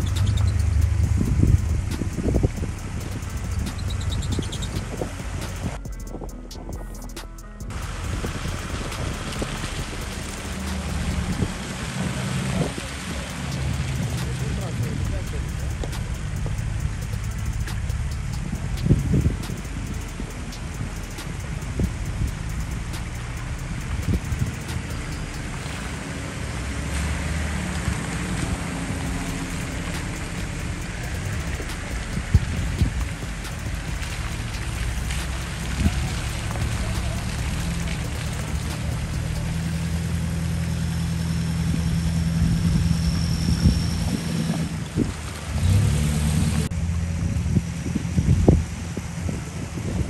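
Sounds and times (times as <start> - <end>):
wind on microphone: 0.0 - 40.6, 41.4 - 50.0
tyres on gravel: 0.0 - 42.0
steady hiss: 0.0 - 46.7
vehicle engine running low: 0.0 - 50.0.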